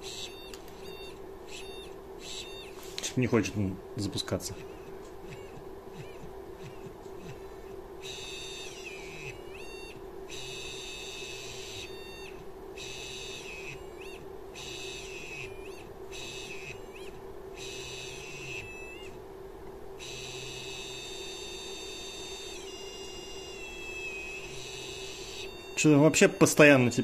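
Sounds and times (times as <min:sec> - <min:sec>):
steady hum: 0:00.0 - 0:27.0
stepper motor whining: 0:00.0 - 0:27.0.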